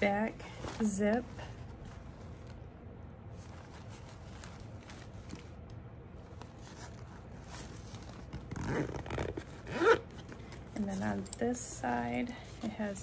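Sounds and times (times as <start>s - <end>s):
bag rustling: 0.0s - 2.6s, 3.3s - 5.6s, 6.2s - 11.6s.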